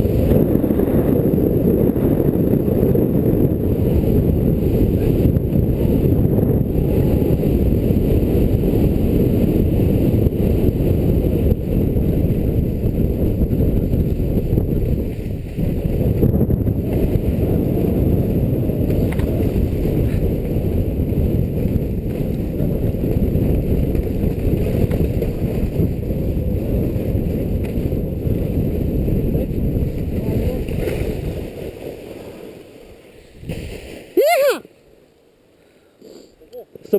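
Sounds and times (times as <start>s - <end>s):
wind buffeting microphone: 0.0s - 34.2s.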